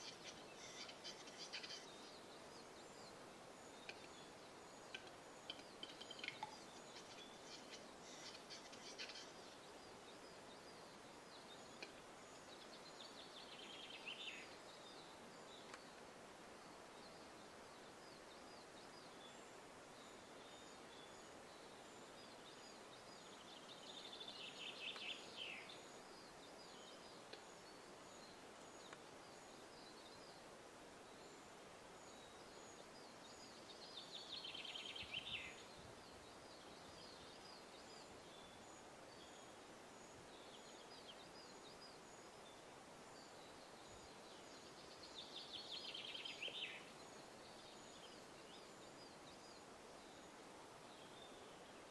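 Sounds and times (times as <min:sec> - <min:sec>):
faint background hiss: 0:00.0 - 0:51.9.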